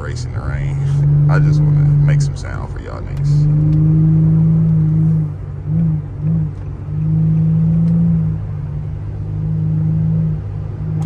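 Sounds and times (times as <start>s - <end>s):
car exhaust under throttle: 0.0s - 11.0s.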